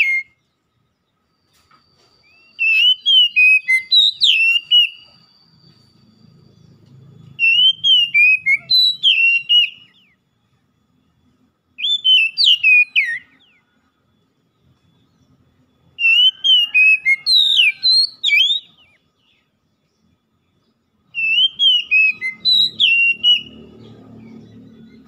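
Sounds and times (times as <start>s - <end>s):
bird singing sliding notes: 0.0s - 10.3s, 14.5s - 25.0s.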